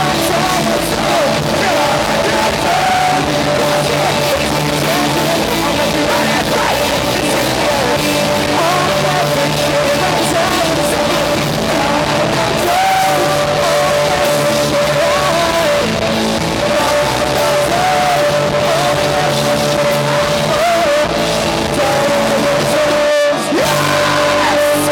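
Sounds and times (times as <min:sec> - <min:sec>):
distorted guitars: 0:00.0 - 0:24.9
drums: 0:00.0 - 0:24.9
person singing: 0:00.0 - 0:24.9
rock band playing live: 0:00.0 - 0:24.9.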